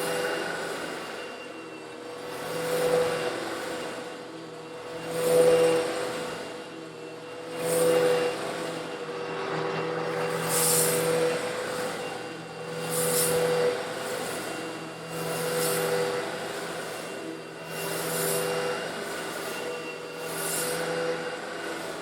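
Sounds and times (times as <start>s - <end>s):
vacuum cleaner motor hum: 0.0s - 22.0s.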